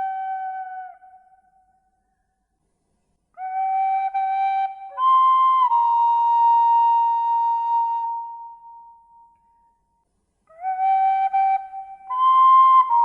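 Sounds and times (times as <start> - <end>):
flute-like melody: 0.0 - 1.8, 3.4 - 9.7, 10.5 - 13.0.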